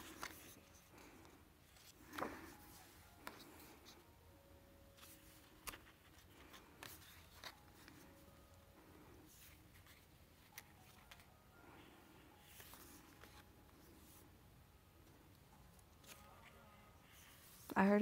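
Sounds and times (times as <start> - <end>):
book pages turning: 0.0 - 4.0, 4.9 - 11.4, 12.3 - 14.2, 15.0 - 17.8.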